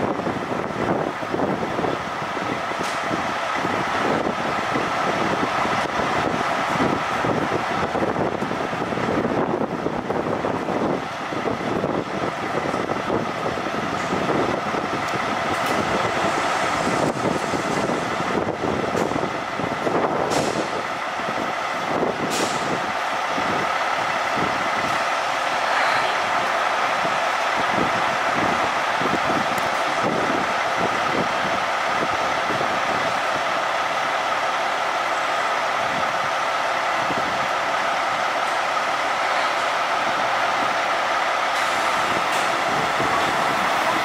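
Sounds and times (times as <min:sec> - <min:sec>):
diesel engines running: 0:00.0 - 0:44.0.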